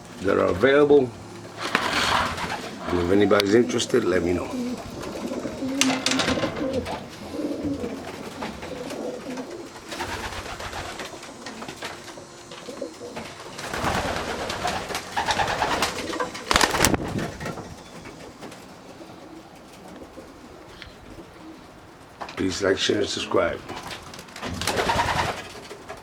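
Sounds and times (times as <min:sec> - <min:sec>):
pigeons cooing: 0:00.0 - 0:22.2, 0:23.2 - 0:26.0
rustling: 0:00.0 - 0:22.6.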